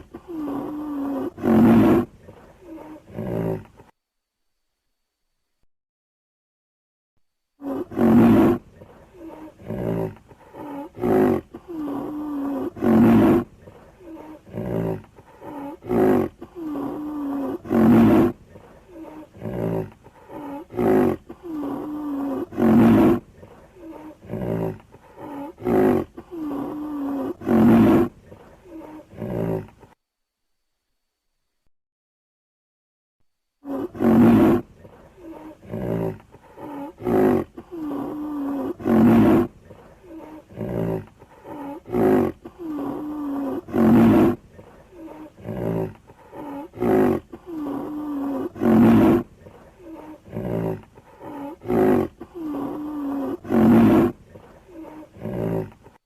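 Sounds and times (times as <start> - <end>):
lion roaring: 0.0 - 3.8, 7.6 - 29.9, 33.6 - 56.0.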